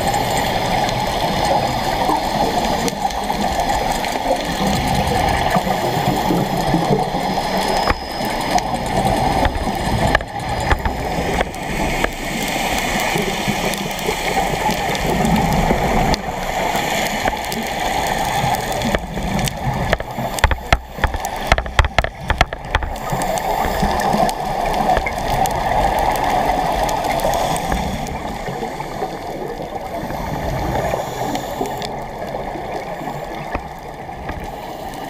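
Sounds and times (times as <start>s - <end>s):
underwater gurgling and bubbling: 0.0s - 35.0s.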